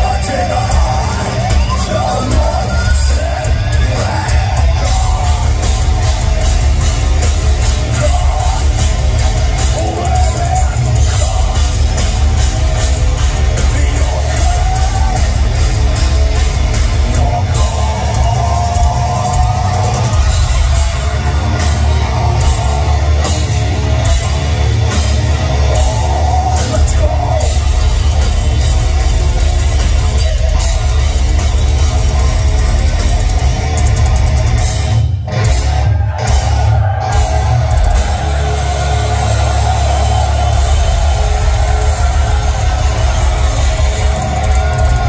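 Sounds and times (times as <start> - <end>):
heavy metal band playing: 0.0 - 45.0.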